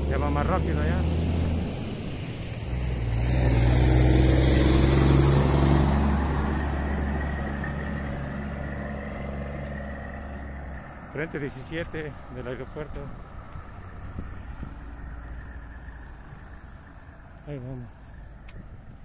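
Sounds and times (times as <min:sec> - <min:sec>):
diesel truck engine passing: 0:00.0 - 0:19.0.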